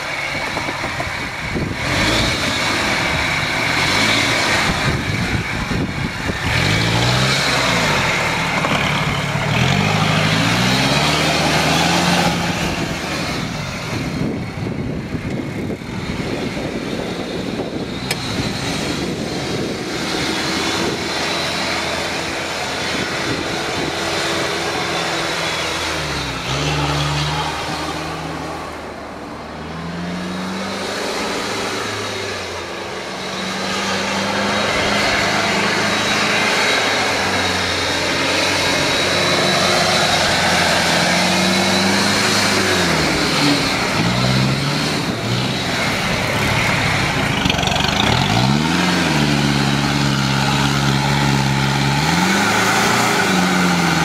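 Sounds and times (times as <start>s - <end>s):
car engine revving under load: 0.0s - 54.0s.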